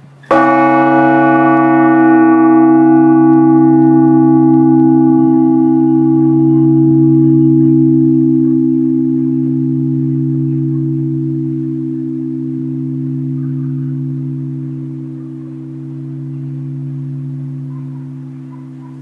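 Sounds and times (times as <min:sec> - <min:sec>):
large church bell ringing: 0:00.2 - 0:19.0.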